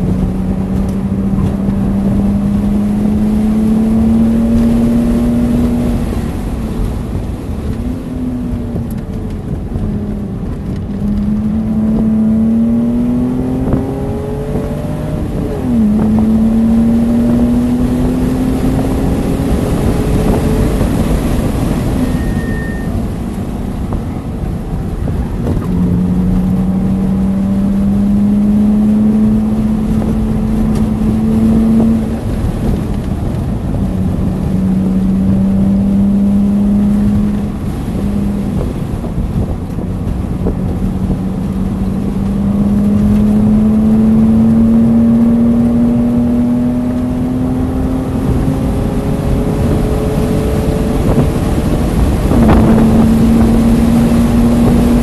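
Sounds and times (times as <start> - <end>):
car engine accelerating through gears: 0.0 - 55.0
road noise: 0.0 - 55.0
wind noise: 0.0 - 55.0.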